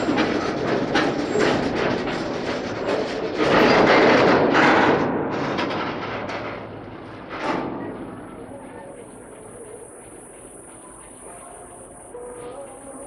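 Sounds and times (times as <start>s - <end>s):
train wheels clattering on rails: 0.0s - 11.2s.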